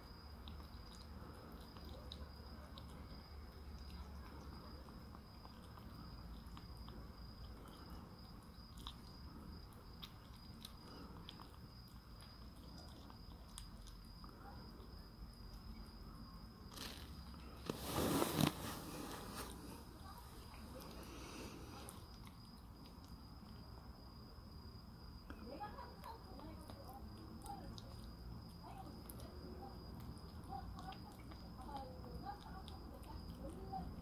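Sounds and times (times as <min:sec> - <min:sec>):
kitten chewing food: 0:00.0 - 0:34.0.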